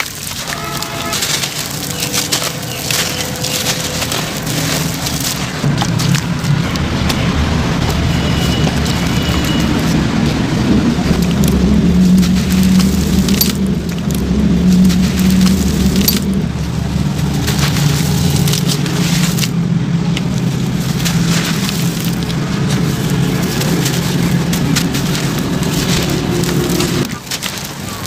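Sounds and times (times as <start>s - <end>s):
crackling and crunching of grit: 0.0s - 28.0s
steady low hum: 1.0s - 27.1s.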